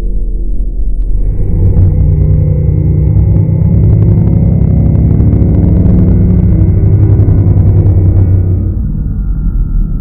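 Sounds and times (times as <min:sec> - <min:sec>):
deep rumbling monster growl: 0:01.0 - 0:10.0.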